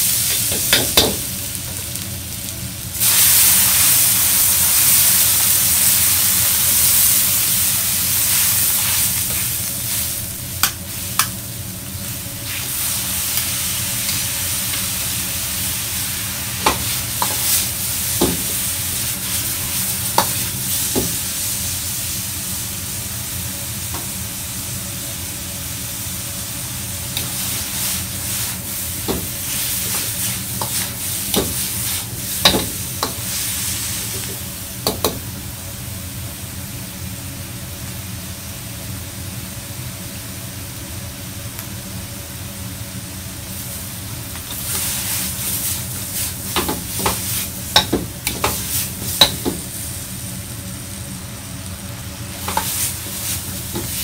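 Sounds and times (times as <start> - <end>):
food sizzling in a wok: 0.0 - 54.0.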